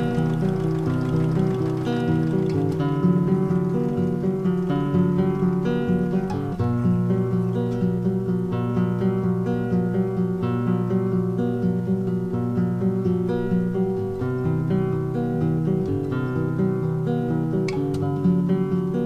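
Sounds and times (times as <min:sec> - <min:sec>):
acoustic guitar plucked notes: 0:00.0 - 0:19.0.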